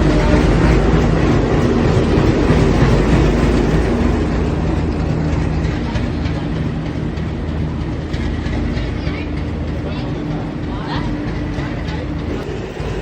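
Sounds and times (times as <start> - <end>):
diesel locomotive humming: 0.0 - 13.0.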